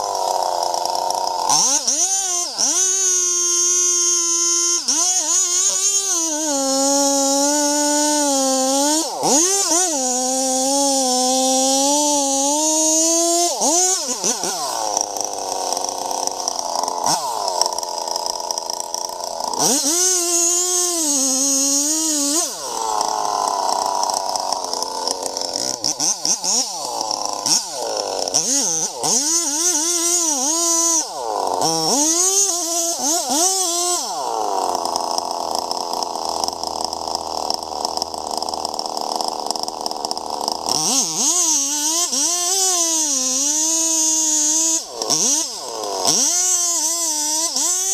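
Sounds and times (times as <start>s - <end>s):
chainsaw engine revving: 0.0s - 47.9s.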